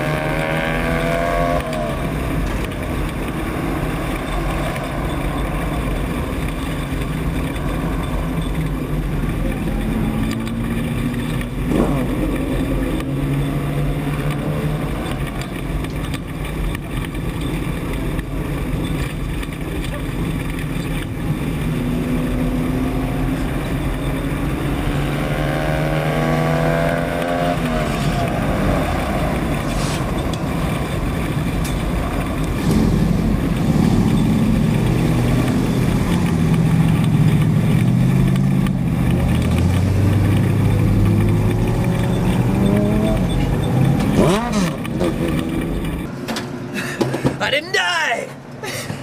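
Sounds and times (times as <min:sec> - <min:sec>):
race truck engine: 0:00.0 - 0:47.5.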